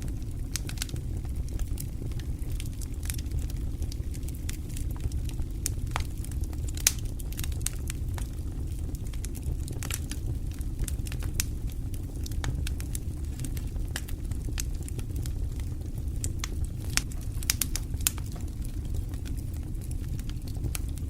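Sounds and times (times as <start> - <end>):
fire crackles and pops: 0.0 - 21.0
wood fire rumble: 0.0 - 21.0.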